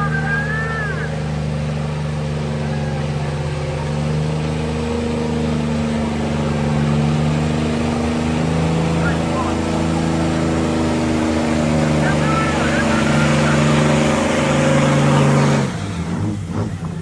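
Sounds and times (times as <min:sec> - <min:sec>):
diesel truck engines idling: 0:00.0 - 0:17.0.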